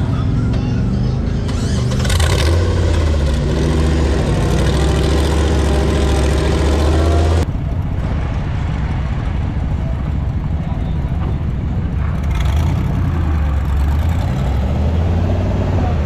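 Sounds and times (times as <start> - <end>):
rough engine rumble: 0.0 - 16.0
truck engine running: 0.0 - 16.0.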